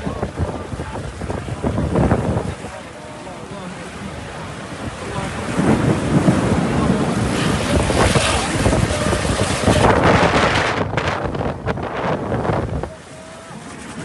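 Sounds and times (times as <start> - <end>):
gusting wind buffeting microphone: 0.0 - 14.0.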